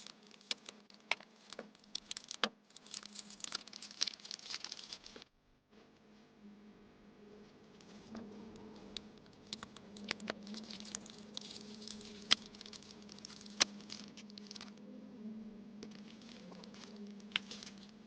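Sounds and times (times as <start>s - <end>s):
crinkly packaging rustling: 0.0s - 5.3s, 7.8s - 14.8s, 15.8s - 18.0s
faint steady hum: 0.0s - 18.0s.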